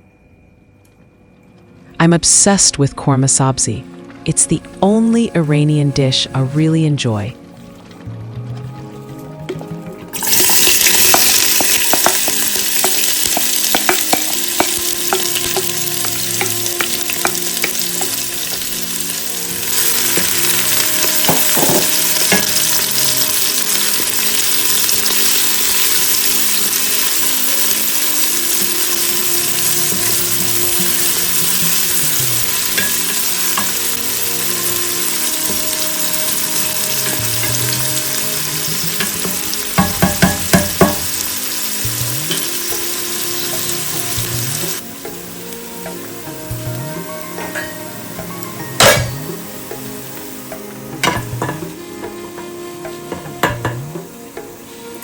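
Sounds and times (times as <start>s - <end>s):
food sizzling in oil: 8.8s - 55.0s.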